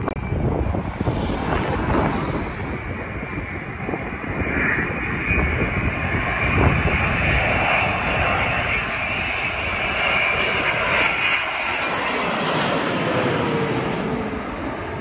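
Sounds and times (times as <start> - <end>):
jet engines whine and roar: 0.0 - 15.0
wind buffeting microphone: 0.0 - 15.0.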